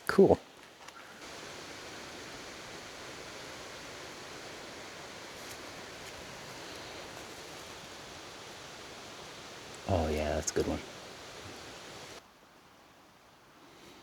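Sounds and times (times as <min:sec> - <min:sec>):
running water rushing: 0:00.1 - 0:12.2.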